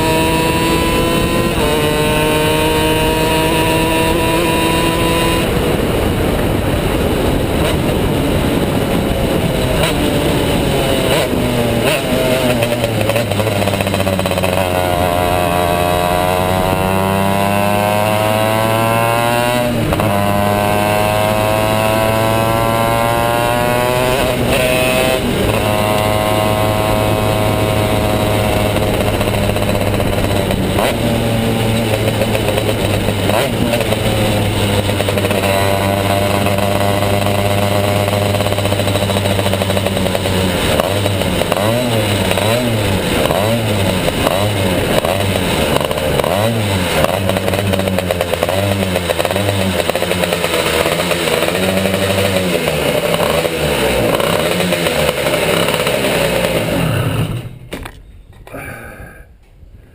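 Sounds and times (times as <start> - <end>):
two-stroke kart engine revving: 0.0 - 57.7.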